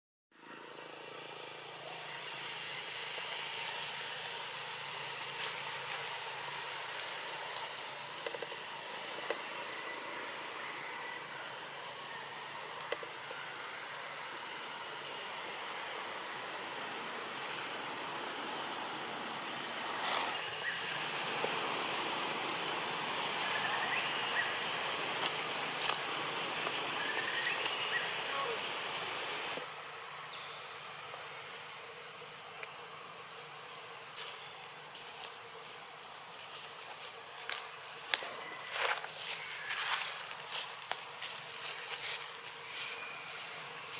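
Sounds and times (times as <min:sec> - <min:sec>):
high insect drone: 0:00.3 - 0:43.9
high-pitched forest hiss: 0:00.4 - 0:43.9.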